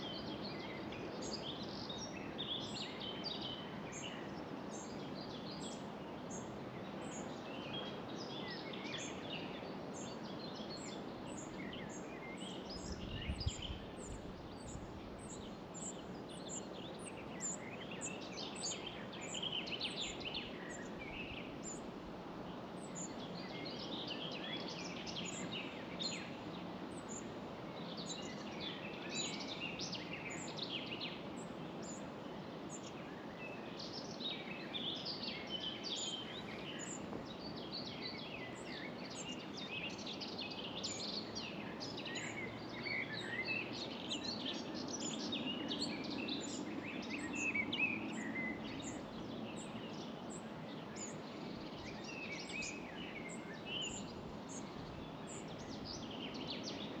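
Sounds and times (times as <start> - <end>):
low background hiss: 0.0 - 57.0
songbirds singing and chirping: 0.0 - 57.0.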